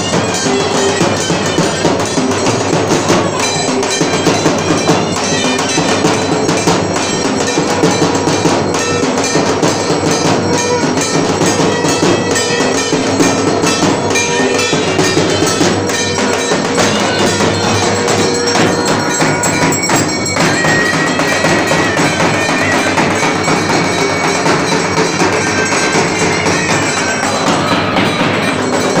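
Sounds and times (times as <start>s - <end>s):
drums beaten fast: 0.0s - 29.0s
metallic ringing: 0.0s - 29.0s.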